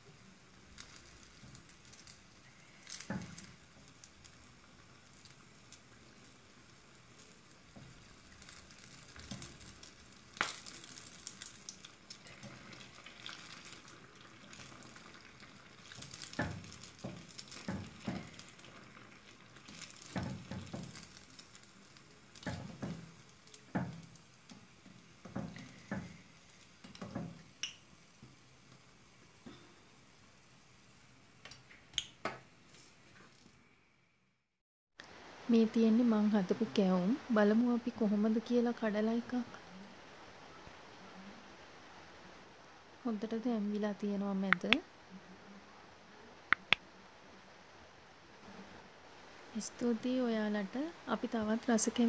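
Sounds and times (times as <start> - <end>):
batter sizzling in hot oil: 0.0 - 34.0, 35.0 - 52.0.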